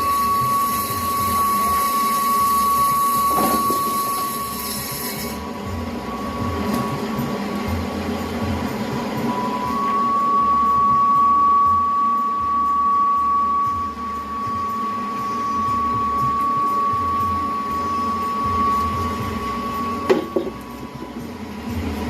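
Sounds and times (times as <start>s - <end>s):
low hum: 0.0s - 22.0s
machine high whine: 0.0s - 22.0s.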